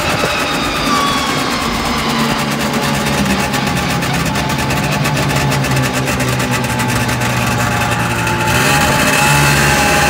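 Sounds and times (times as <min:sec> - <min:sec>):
snowmobile engine running: 0:00.0 - 0:10.0.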